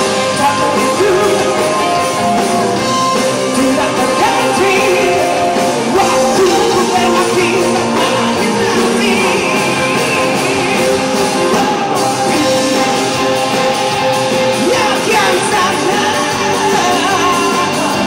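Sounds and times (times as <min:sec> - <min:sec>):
person singing: 0:00.0 - 0:18.0
rock band playing: 0:00.0 - 0:18.0.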